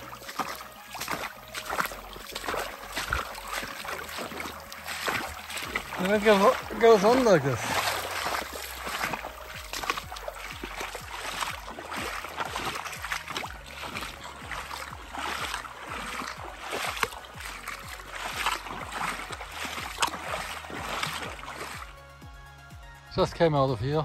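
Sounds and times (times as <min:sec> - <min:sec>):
water sloshing from wading: 0:00.0 - 0:22.3.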